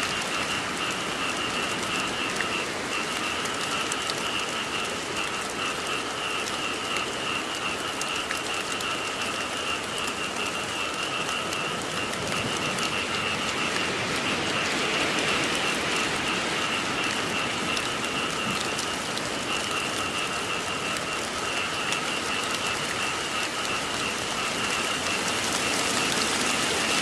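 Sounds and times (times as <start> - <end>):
frogs trilling: 0.0 - 27.0
steady rain falling: 0.0 - 27.0.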